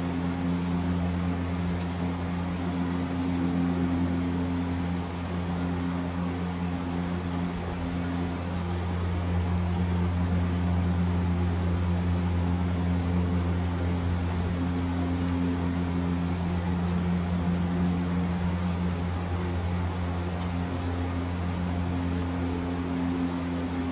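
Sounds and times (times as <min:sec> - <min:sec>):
low mechanical hum: 0:00.0 - 0:23.9.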